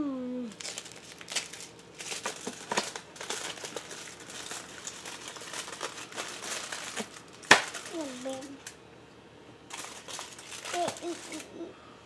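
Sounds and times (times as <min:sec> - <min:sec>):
wrapper crinkling: 0:00.5 - 0:08.8, 0:09.7 - 0:11.6.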